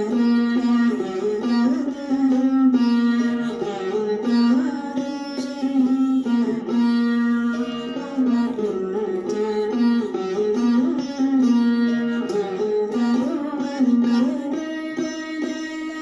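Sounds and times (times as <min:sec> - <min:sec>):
plucked veena melody: 0:00.0 - 0:16.0.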